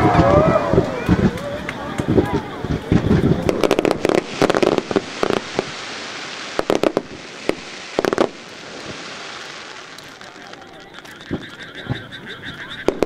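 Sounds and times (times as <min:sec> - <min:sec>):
firework booms: 0:00.0 - 0:12.2
crackling hiss: 0:00.0 - 0:13.0.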